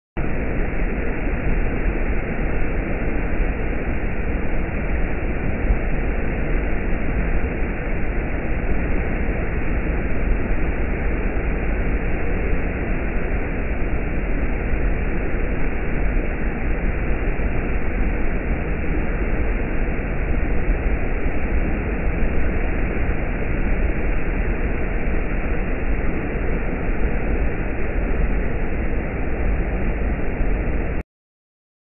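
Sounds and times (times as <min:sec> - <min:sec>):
waterfall rushing over rock: 0:00.2 - 0:31.0.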